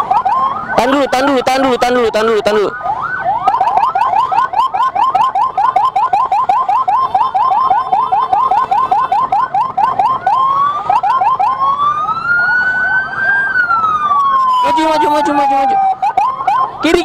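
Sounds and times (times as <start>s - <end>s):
siren yelping and wailing: 0.0s - 17.0s.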